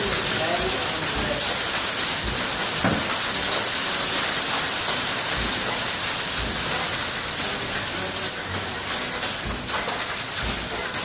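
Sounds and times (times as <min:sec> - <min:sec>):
hail and rain pattering: 0:00.0 - 0:11.0
hailstones thudding: 0:00.0 - 0:11.0.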